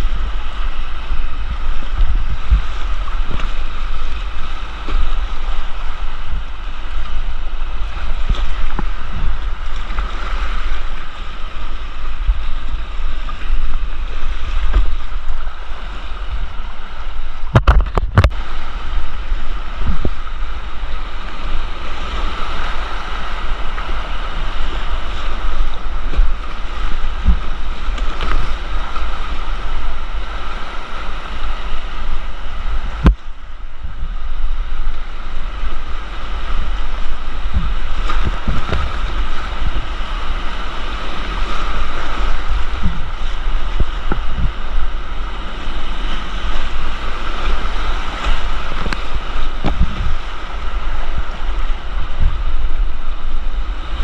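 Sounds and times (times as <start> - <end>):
rushing creek whitewater: 0.0 - 54.0
wind buffeting microphone: 0.0 - 54.0.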